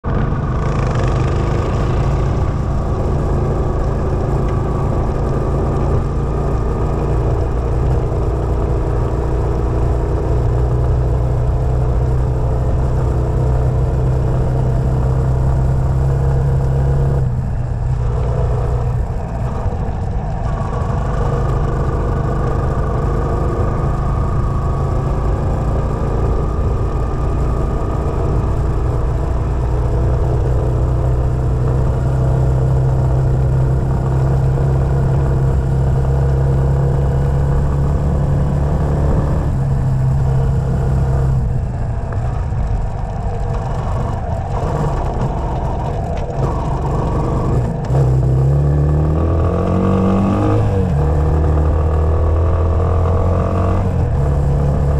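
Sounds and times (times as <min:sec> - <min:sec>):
quad bike engine running: 0:00.0 - 0:54.9.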